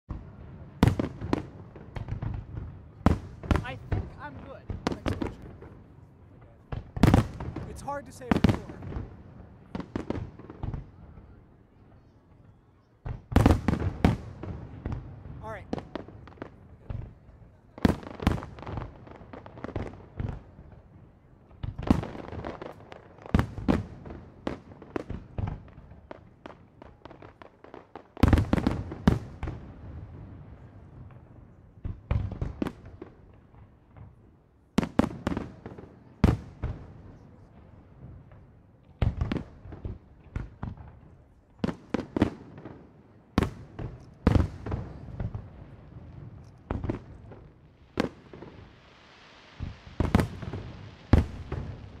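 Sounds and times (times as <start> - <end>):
fireworks bursting in bangs: 0.1 - 11.4, 13.0 - 20.9, 21.5 - 52.0.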